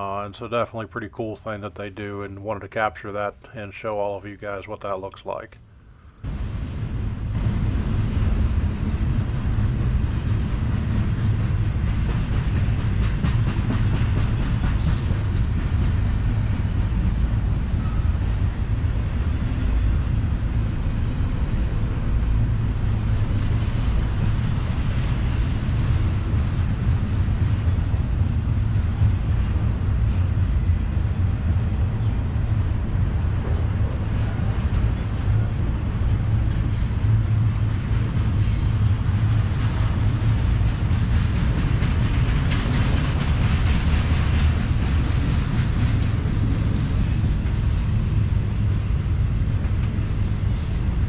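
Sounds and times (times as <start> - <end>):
freight train wheels rumbling on rail: 6.0 - 51.0.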